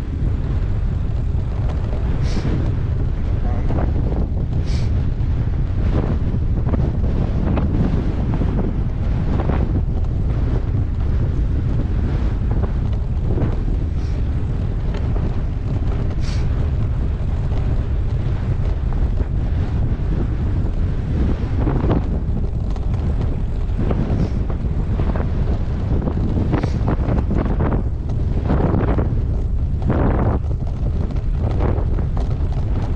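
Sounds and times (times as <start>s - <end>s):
bike knocks and rattles: 0.0s - 32.9s
wind buffeting microphone: 0.0s - 32.9s.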